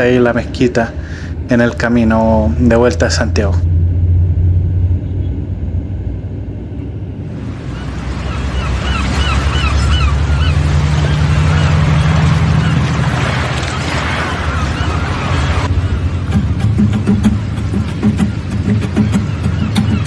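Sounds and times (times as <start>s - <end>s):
wind and road noise hiss: 0.0s - 19.5s
bus engine and road rumble: 0.0s - 20.0s.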